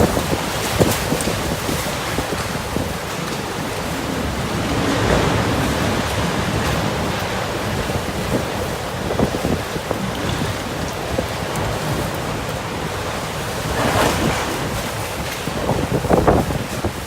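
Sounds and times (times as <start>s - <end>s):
rain: 0.0s - 17.0s
storm wind gusting: 0.0s - 17.0s
wind buffeting microphone: 0.0s - 17.0s.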